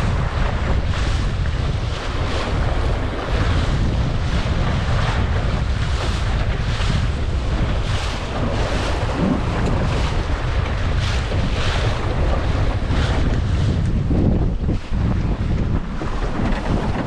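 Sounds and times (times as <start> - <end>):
waves and water splashing: 0.0 - 17.0
wind buffeting microphone: 0.0 - 17.0.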